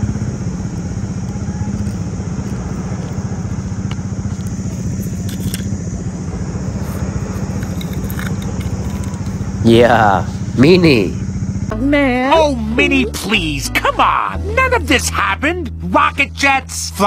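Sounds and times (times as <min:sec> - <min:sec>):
engine-like pulsing rumble: 0:00.0 - 0:17.0.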